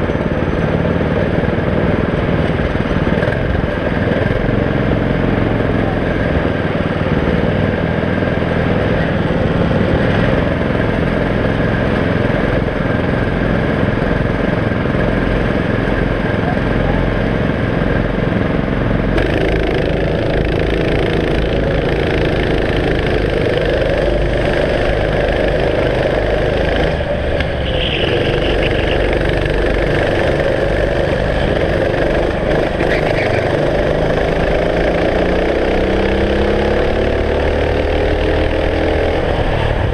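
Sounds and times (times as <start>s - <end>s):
kart engine running hard: 0.0s - 39.9s
other kart engine ahead: 0.0s - 39.9s.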